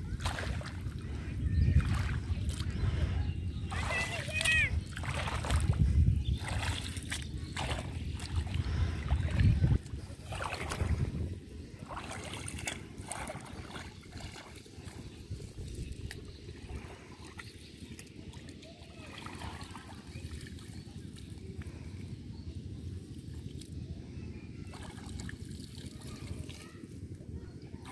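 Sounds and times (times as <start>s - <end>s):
muddy water sloshing and splashing: 0.0s - 23.8s, 24.7s - 27.9s.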